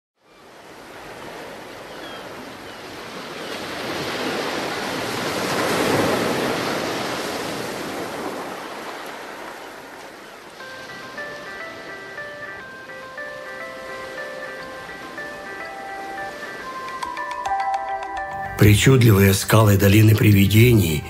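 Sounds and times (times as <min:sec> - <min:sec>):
sea surf: 0:00.3 - 0:21.0.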